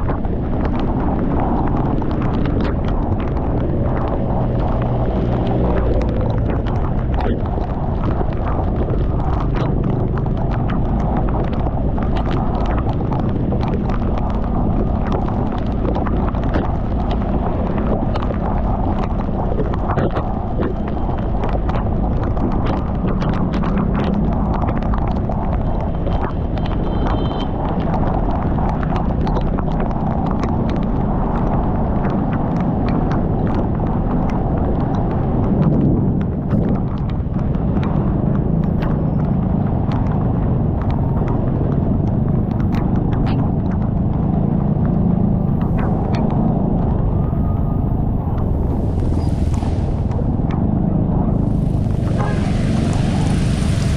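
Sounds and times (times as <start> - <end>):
heavy rain: 0.0 - 44.1, 44.8 - 53.9
loud steady low rumble: 0.0 - 53.9
raindrops clicking on microphone: 0.0 - 53.9
wind noise: 0.0 - 53.9.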